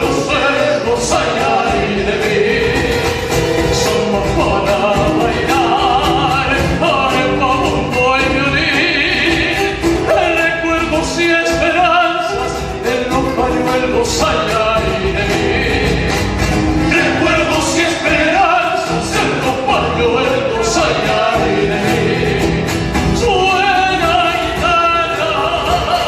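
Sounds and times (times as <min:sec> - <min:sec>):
instrumental accompaniment with beat: 0:00.0 - 0:26.0
person singing folk song: 0:00.0 - 0:26.0.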